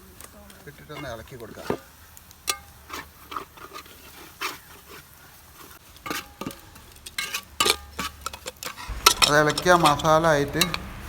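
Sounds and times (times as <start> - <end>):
spoon scraping a metal pan: 0.8 - 11.0.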